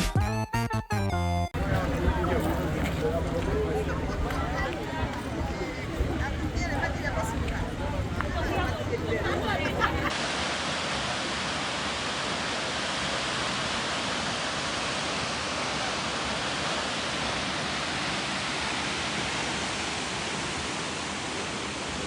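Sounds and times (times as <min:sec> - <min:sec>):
waterfall roaring: 0:01.6 - 0:22.0.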